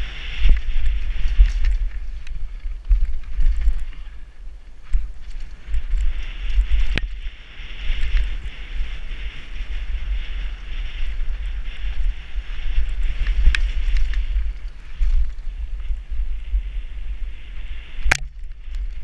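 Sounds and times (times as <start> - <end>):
tyres hissing on trail: 0.0 - 18.1
wind buffeting microphone: 0.0 - 19.0.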